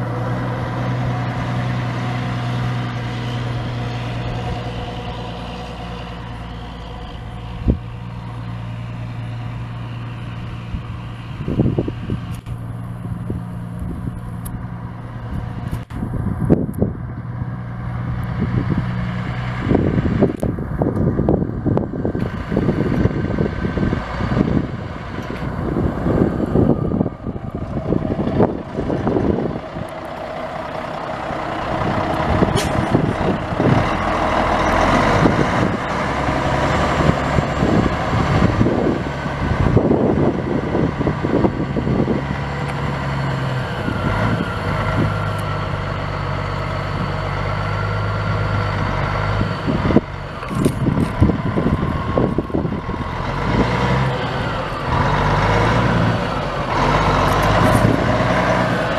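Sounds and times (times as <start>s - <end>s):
diesel truck engine revving: 0.0s - 58.9s.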